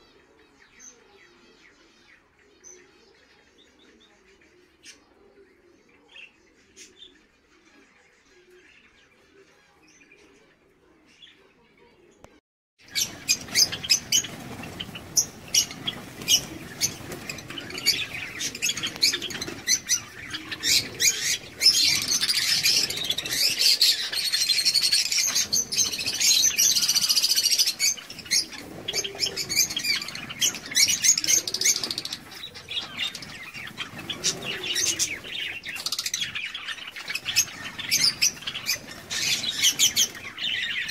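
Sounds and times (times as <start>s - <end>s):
sparrows chirping and fluttering: 0.0s - 12.2s, 12.8s - 40.9s.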